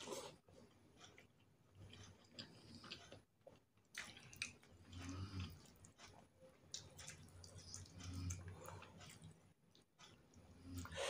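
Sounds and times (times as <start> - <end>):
wet chewing and mouth clicks: 1.0 - 10.9.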